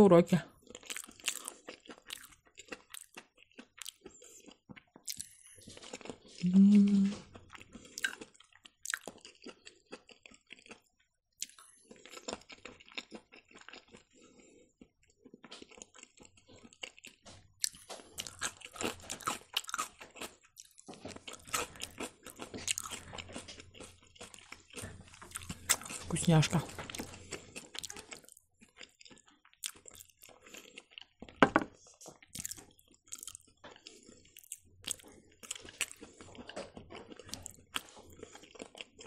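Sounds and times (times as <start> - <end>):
person chewing food: 0.5 - 39.0.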